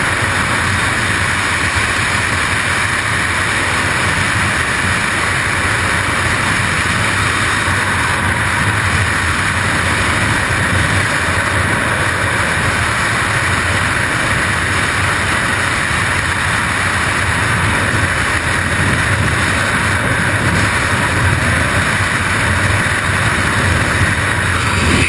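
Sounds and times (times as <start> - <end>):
freefall wind buffeting microphone: 0.0 - 25.0.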